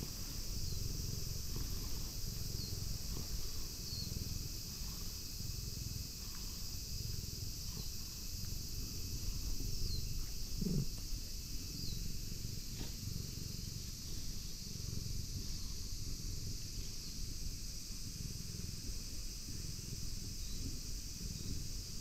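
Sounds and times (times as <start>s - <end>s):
cat purring: 0.0s - 22.0s
high insect drone: 0.0s - 22.0s.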